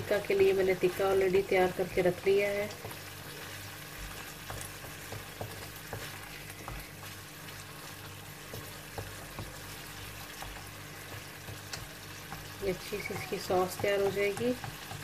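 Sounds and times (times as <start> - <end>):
sauce sizzling in a frying pan: 0.0 - 15.0
wooden spoon scraping a pan: 0.2 - 15.0.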